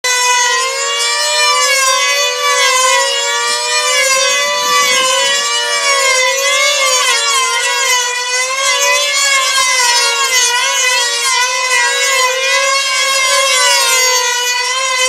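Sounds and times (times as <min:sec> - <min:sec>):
model plane engines whining: 0:00.1 - 0:15.0.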